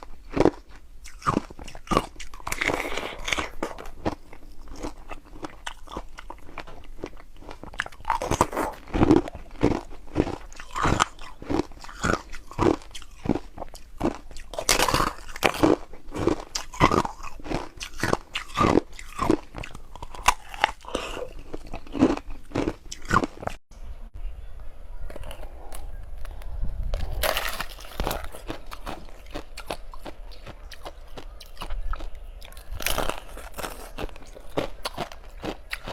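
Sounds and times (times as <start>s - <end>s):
ice being chewed: 0.0s - 23.6s, 25.1s - 35.9s.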